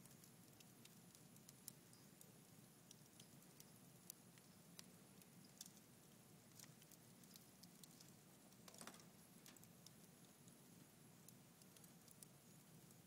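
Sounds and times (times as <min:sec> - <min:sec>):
logs crackling and popping in fireplace: 0:00.0 - 0:13.0.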